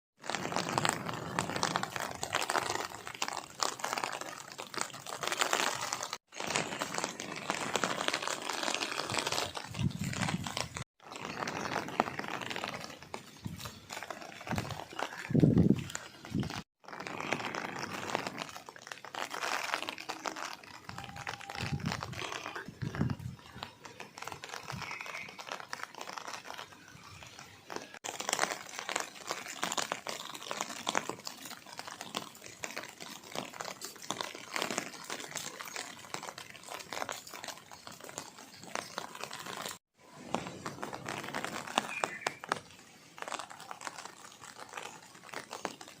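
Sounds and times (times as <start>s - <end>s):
rain falling: 0.2s - 10.8s, 17.1s - 46.0s.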